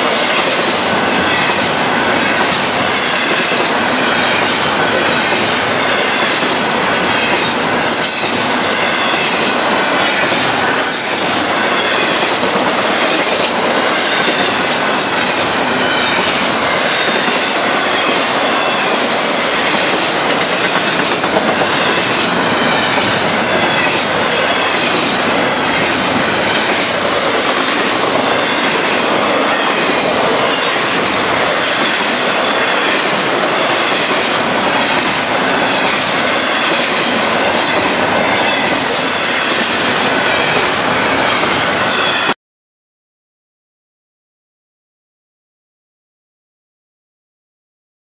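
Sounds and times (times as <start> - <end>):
freight train wheels rumbling on rails: 0.0 - 42.4.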